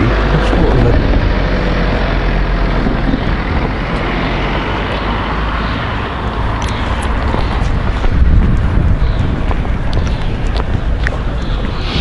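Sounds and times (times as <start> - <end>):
road traffic going by: 0.0 - 12.0.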